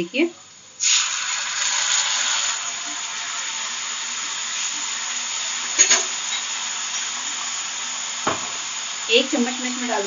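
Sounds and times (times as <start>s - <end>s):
vegetables sizzling in hot oil: 0.8s - 10.0s.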